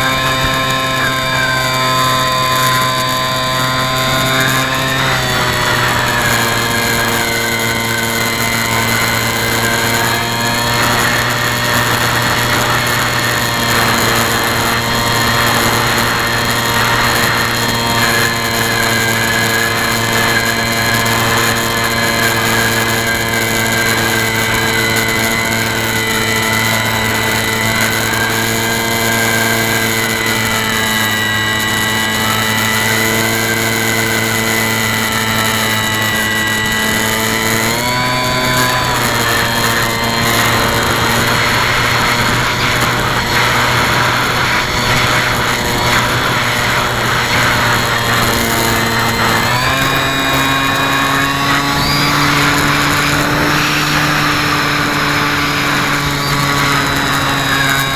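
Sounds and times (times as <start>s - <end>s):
model airplane motor whine: 0.0s - 57.9s.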